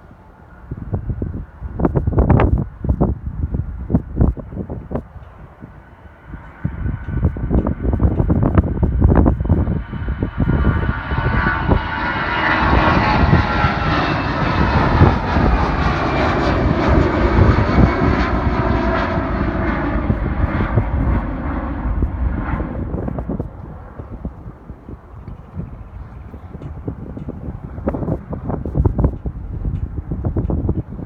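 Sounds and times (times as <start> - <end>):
airliner engines roaring past: 0.0 - 31.0.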